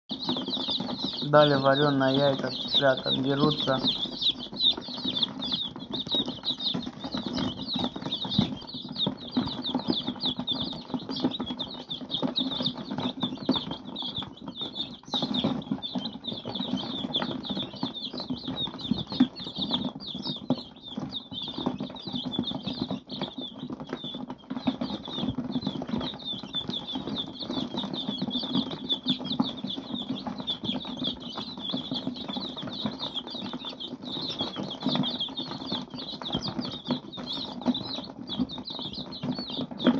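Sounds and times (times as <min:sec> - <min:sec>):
chicks pecking on cardboard: 0:00.1 - 0:39.9
chicks peeping: 0:00.1 - 0:39.9.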